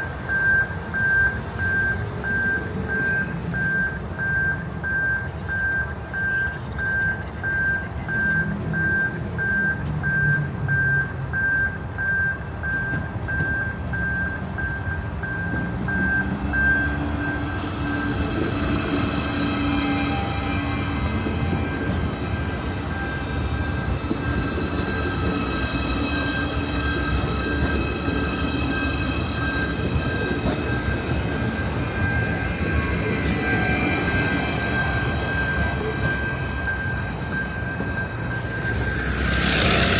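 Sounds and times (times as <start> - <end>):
level-crossing warning beeper: 0.0 - 39.9
train running over crossing: 0.0 - 39.9.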